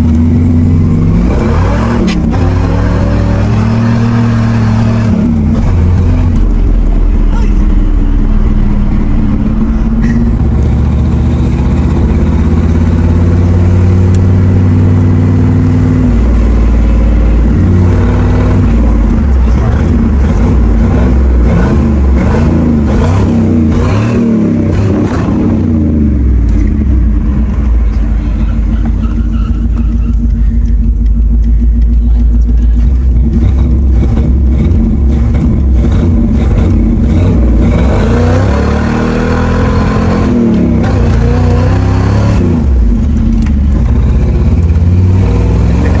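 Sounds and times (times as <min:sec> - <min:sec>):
pickup engine revving through gears: 0:00.0 - 0:46.0.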